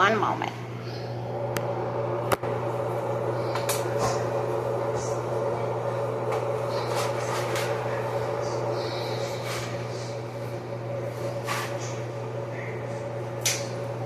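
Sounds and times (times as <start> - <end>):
electric fan hum: 0.0 - 14.0.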